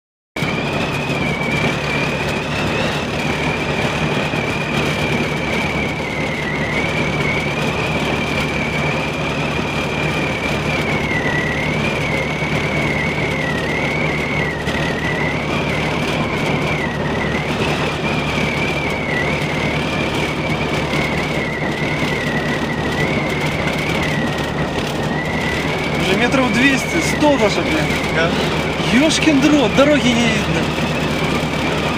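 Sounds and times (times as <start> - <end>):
car engine hum: 0.4 - 31.9
high wavering whistle: 0.4 - 31.9
road noise rush: 0.4 - 31.9.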